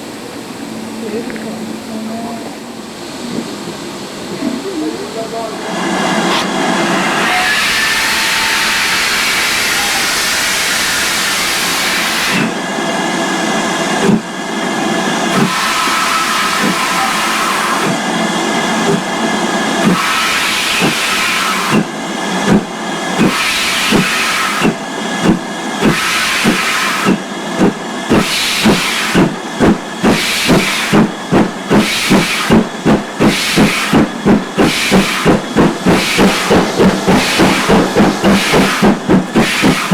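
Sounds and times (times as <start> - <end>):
steam locomotive exhaust beats: 0.0 - 39.9
hiss of escaping steam: 5.6 - 39.9.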